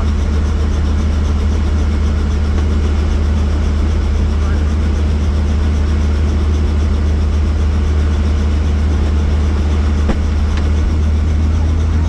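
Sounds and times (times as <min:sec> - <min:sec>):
helicopter drone from cabin: 0:00.0 - 0:12.0.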